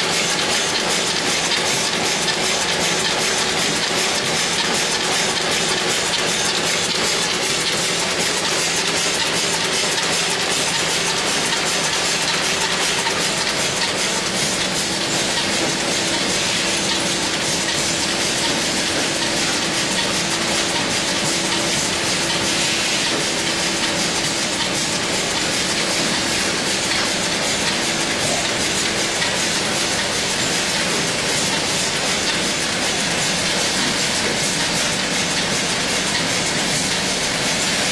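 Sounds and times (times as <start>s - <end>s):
machine clatter of rapid clicks: 0.0s - 37.9s.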